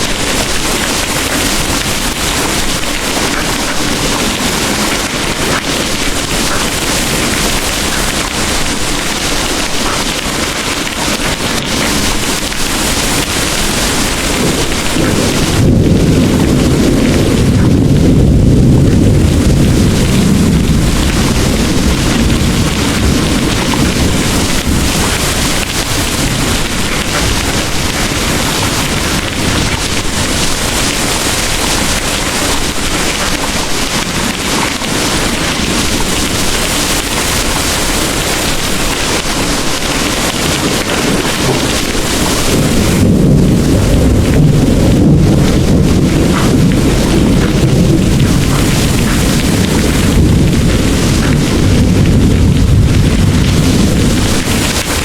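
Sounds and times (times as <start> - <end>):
distant thunder rumbling: 0.0 - 55.0
heavy rain pouring: 0.0 - 55.0.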